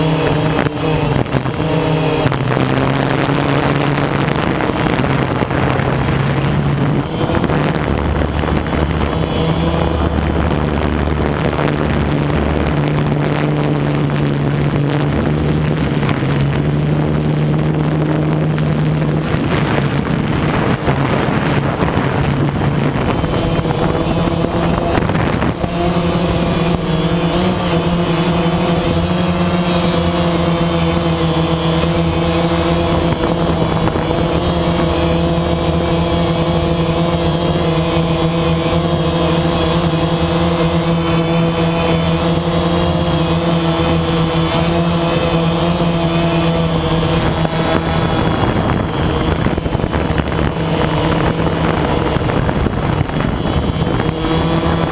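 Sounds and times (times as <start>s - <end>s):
road and wind noise: 0.0s - 54.9s
vehicle engine running: 0.0s - 54.9s.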